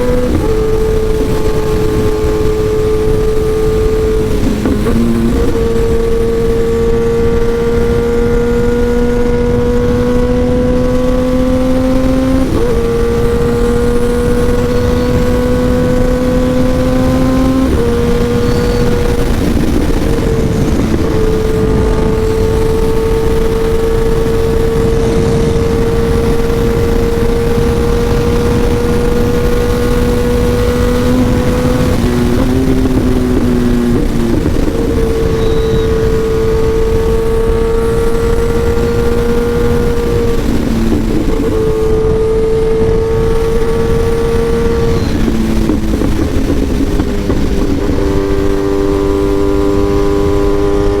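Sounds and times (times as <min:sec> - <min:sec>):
motorcycle engine pulling under load: 0:00.0 - 0:51.0
wind rush: 0:00.0 - 0:51.0.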